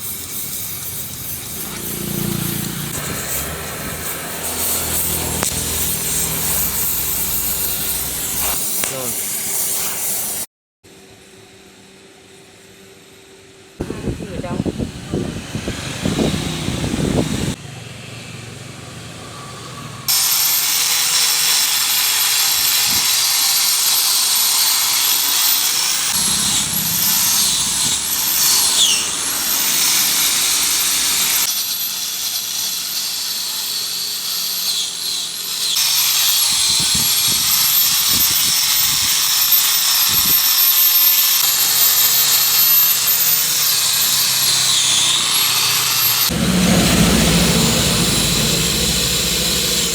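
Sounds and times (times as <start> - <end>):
high-speed power tool whining: 0.0 - 9.5, 13.8 - 17.6, 18.4 - 49.9.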